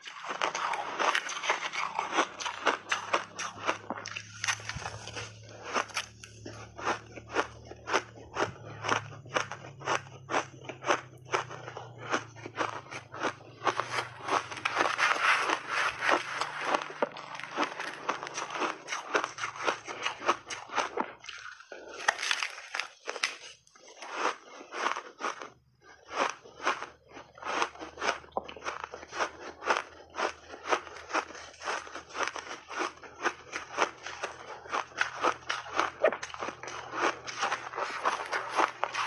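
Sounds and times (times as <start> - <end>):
shaved ice crunching when chewed: 0.0 - 39.0.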